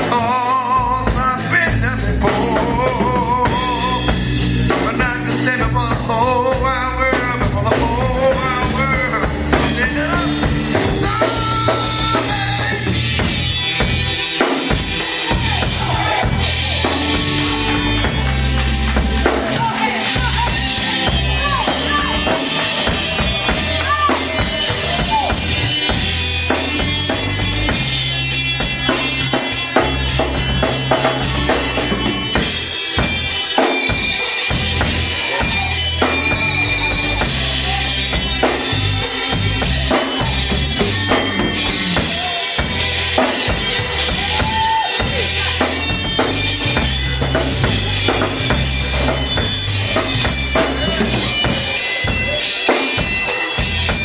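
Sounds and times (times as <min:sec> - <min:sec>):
bass line: 0:00.0 - 0:54.0
drum kit beat: 0:00.0 - 0:54.0
held higher chords: 0:00.0 - 0:54.0.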